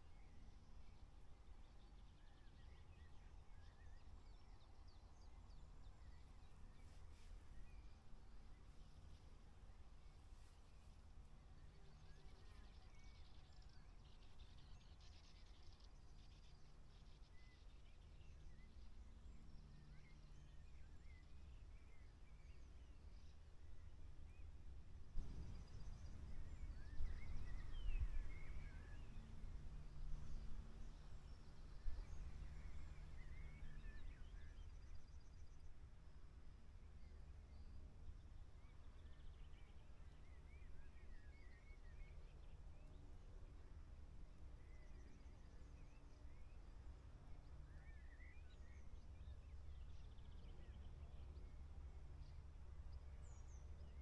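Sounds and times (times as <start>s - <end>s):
faint birds chirping: 0.0s - 54.0s
low steady rumble: 0.0s - 54.0s.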